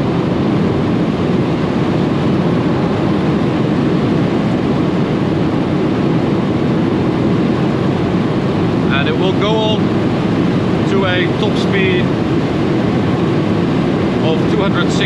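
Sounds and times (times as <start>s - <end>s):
car engine roar under load: 0.0s - 15.0s
wind and tyre noise: 0.0s - 15.0s.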